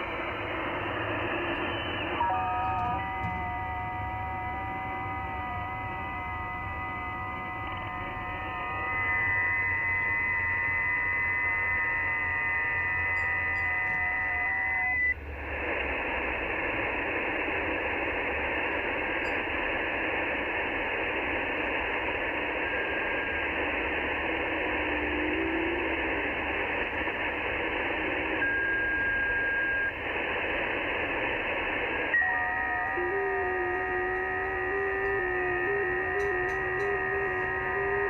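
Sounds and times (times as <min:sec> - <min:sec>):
digital radio tones: 0:00.0 - 0:38.0
radio static hiss: 0:00.0 - 0:38.0.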